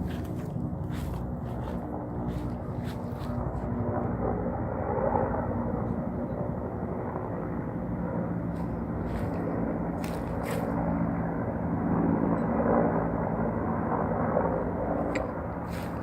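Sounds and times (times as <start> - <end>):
helicopter flying by: 0.0 - 16.0.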